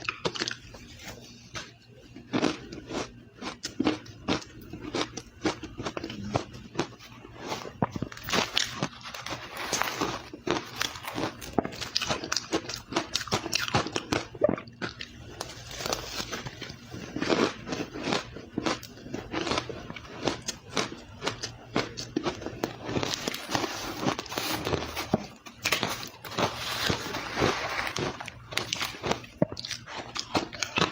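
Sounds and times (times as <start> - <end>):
ice being chewed: 0.0 - 30.9.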